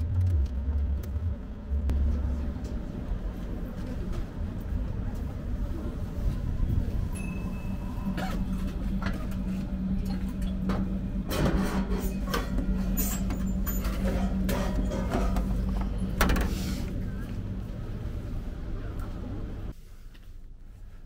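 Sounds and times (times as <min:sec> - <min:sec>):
vending machine humming: 0:00.0 - 0:19.7.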